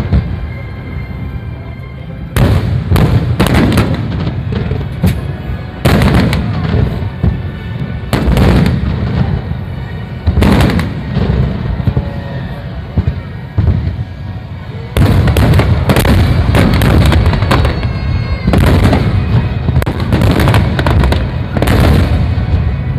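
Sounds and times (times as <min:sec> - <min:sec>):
fireworks bangs: 0:00.0 - 0:00.9, 0:02.3 - 0:22.9.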